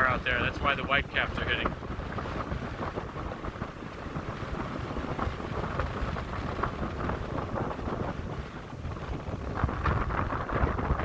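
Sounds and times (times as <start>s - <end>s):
surf: 0.0s - 11.0s
wind buffeting microphone: 0.0s - 11.0s.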